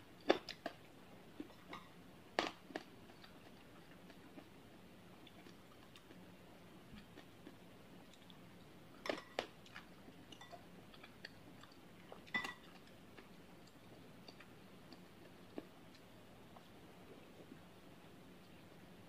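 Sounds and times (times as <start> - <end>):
soft chewing: 0.0 - 19.0.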